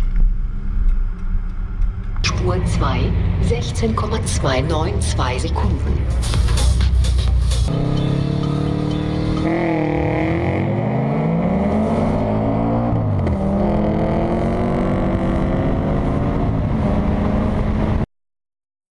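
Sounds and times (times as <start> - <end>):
car engine accelerating hard: 2.2 - 18.0.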